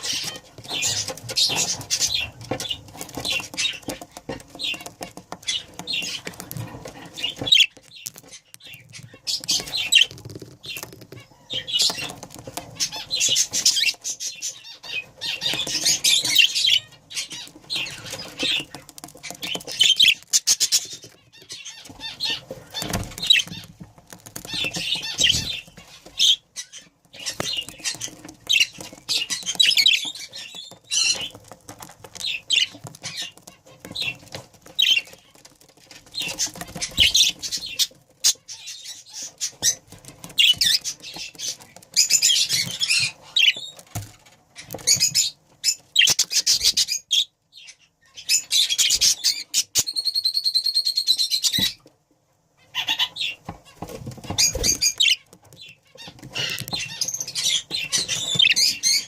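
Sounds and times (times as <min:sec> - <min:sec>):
budgerigars chattering and chirping: 0:00.0 - 0:23.7, 0:24.3 - 0:43.8, 0:44.5 - 0:51.8, 0:52.6 - 0:59.0.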